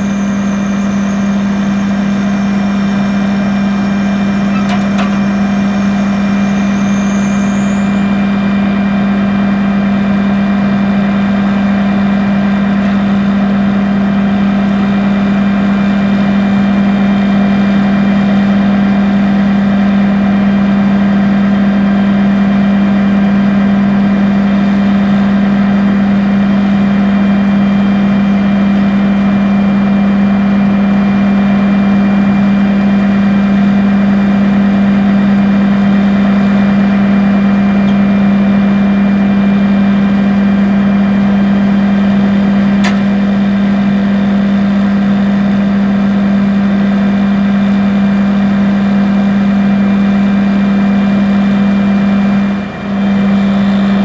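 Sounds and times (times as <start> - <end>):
forage harvester engine humming: 0.0 - 54.0
high engine whines: 0.0 - 54.0.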